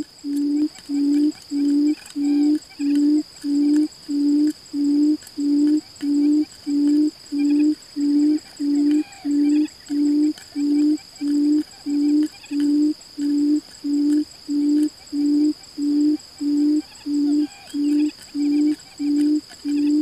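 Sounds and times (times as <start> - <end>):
bird hooting call: 0.0 - 20.0
faint high whine: 0.0 - 20.0.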